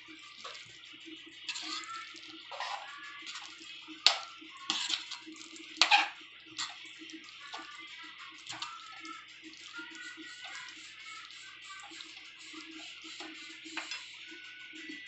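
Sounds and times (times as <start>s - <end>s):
spatula sloshing scrapes in pan: 0.3s - 14.3s.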